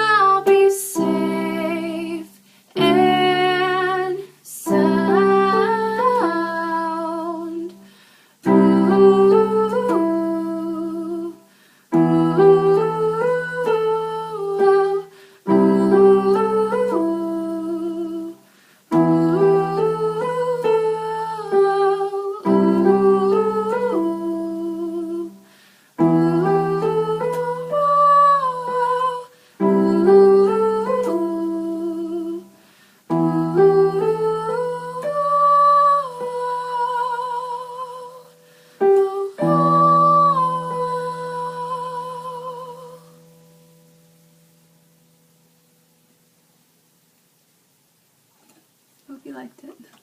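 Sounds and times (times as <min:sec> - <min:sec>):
person humming with vibrato: 0:00.0 - 0:07.8, 0:08.4 - 0:25.4, 0:26.0 - 0:43.4
piano keyboard chords: 0:00.0 - 0:46.9.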